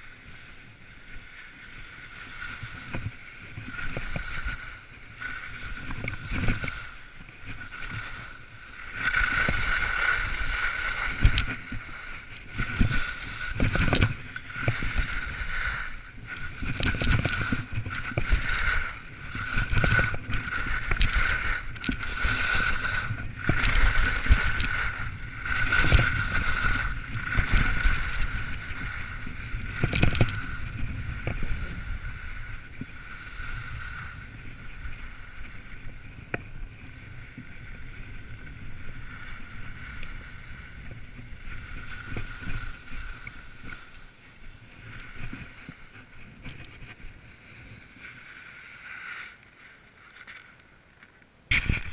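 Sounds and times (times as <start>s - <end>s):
snowboard scraping over snow: 0.0s - 50.6s, 51.5s - 51.9s.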